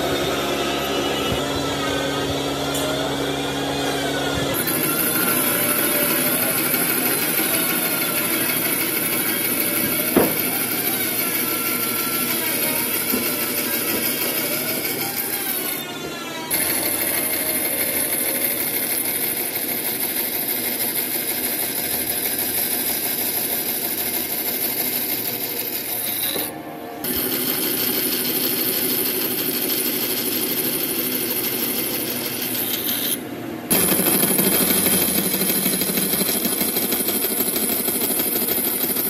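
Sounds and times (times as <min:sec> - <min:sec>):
bandsaw cutting wood: 0:00.0 - 0:39.0.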